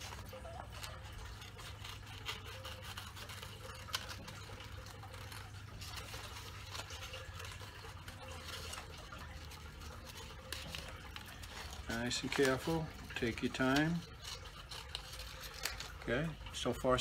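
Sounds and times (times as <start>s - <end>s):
scissors snipping paper: 0.0s - 17.0s.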